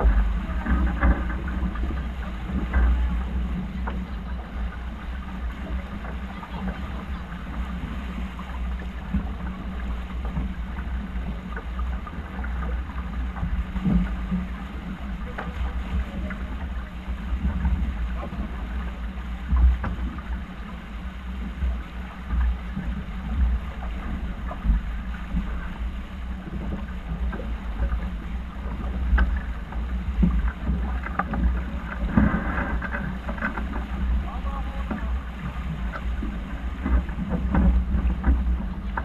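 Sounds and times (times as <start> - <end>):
water noise of sailing yacht: 0.0 - 39.0
wind rumbling on microphone: 0.0 - 39.0.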